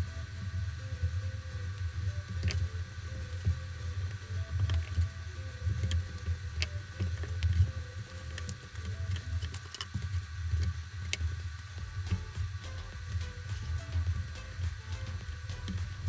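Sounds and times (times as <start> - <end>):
small parts clicking and tapping: 0.0 - 16.0.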